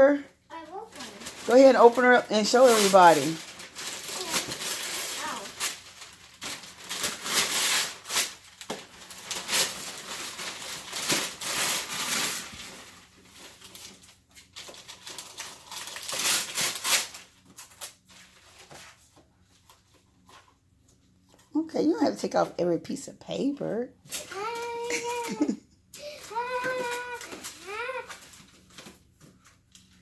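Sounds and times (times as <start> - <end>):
wrapping paper tearing and rustling: 0.5 - 20.6, 24.0 - 30.0.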